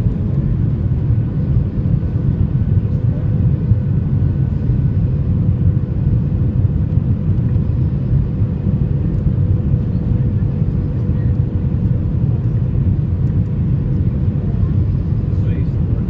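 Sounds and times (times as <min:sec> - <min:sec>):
jet airliner low rumble: 0:00.0 - 0:16.0.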